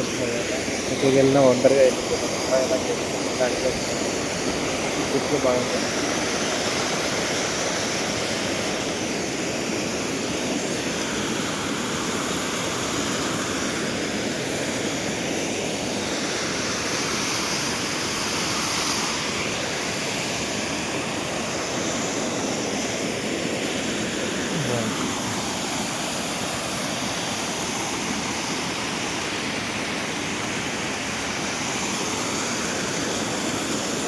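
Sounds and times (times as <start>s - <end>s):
waterfall splashing over rocks: 0.0s - 34.0s.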